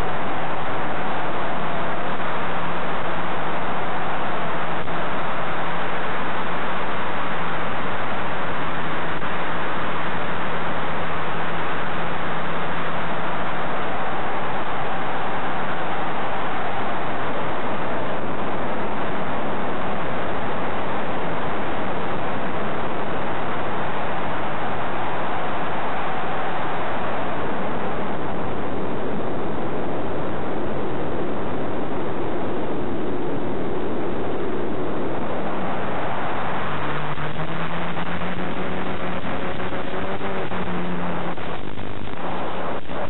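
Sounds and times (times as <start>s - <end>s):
faint low hum: 0.0s - 43.0s
rushing hiss-like noise: 0.0s - 43.0s.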